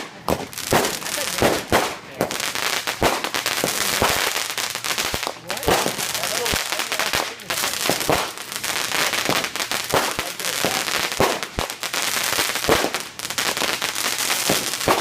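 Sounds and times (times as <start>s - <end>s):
firecrackers crackling: 0.0s - 15.0s
sharp firework pops: 0.0s - 15.0s.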